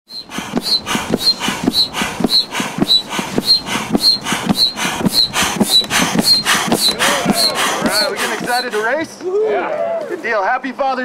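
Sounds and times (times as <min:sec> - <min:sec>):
foot bellows pump wheezing: 0:00.1 - 0:09.2.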